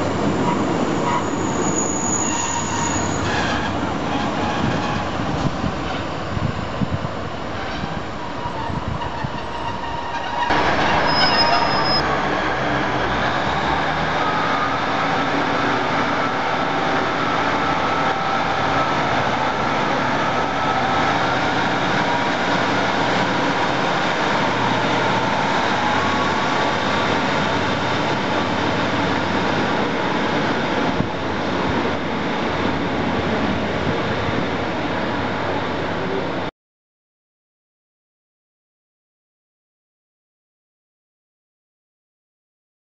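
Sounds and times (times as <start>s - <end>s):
diesel train engine drone: 0.0s - 36.5s.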